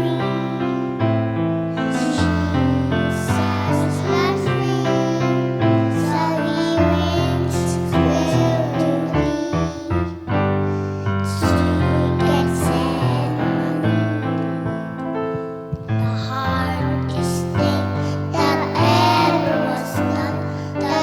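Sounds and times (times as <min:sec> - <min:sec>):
person singing: 0:00.0 - 0:01.1, 0:01.7 - 0:10.4, 0:11.1 - 0:15.2, 0:15.8 - 0:21.0
piano or keyboard accompaniment: 0:00.0 - 0:21.0.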